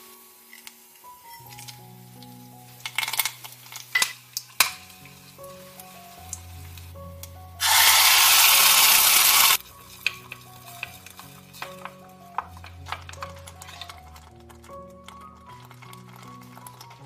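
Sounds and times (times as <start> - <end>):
food sizzling in hot oil: 0.0 - 14.0
background music: 0.0 - 17.0.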